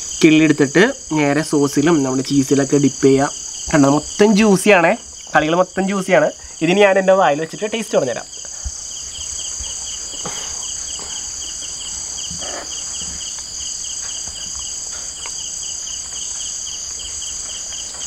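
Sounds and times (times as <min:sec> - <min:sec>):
insect chirping in fast pulses: 0:00.0 - 0:18.0
insects trilling: 0:00.0 - 0:18.0.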